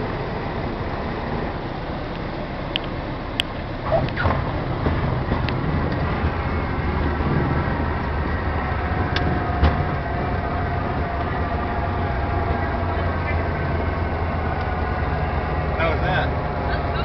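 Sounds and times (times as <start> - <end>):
light airplane engine running: 0.0 - 17.0.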